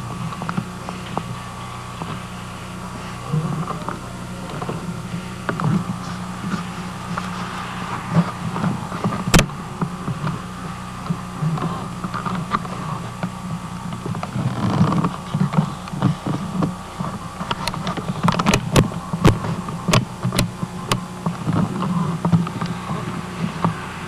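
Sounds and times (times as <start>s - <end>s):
steady low hum: 0.0s - 24.0s
sharp clicks and knocks: 3.6s - 10.4s, 11.0s - 23.8s.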